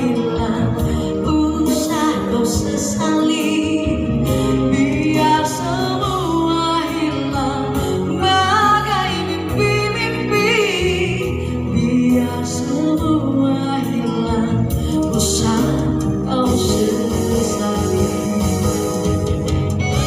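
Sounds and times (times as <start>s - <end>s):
woman singing into microphone: 0.0s - 19.4s
backing music: 0.0s - 20.0s.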